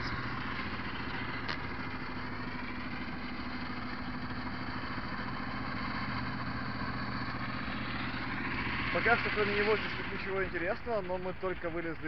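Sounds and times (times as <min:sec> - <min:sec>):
street noise: 0:00.0 - 0:12.0
vehicle engine idling: 0:00.0 - 0:12.0.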